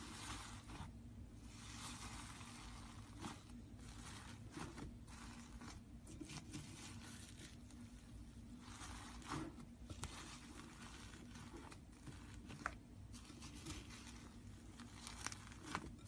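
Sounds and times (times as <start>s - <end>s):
sticky slime crackling: 0.0s - 16.0s.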